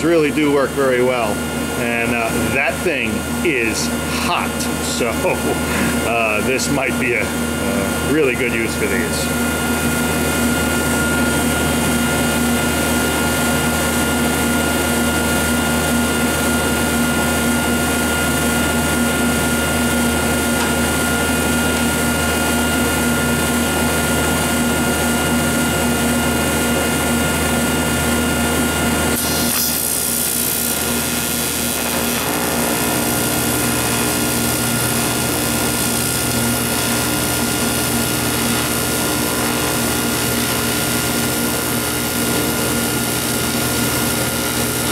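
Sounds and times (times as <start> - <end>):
steady hum with pitched tones: 0.0 - 44.9
welding arc hissing: 0.9 - 15.5, 17.3 - 44.9.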